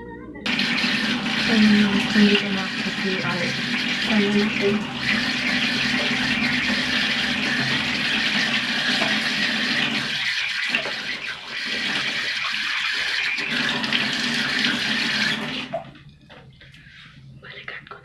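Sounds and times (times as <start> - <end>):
tap water running into sink: 0.5 - 16.0.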